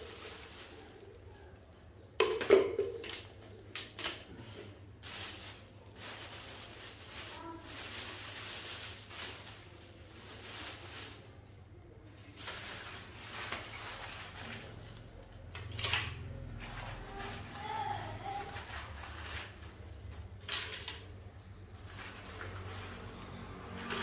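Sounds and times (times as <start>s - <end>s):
plastic bag rustling: 0.0s - 3.5s, 4.3s - 24.0s.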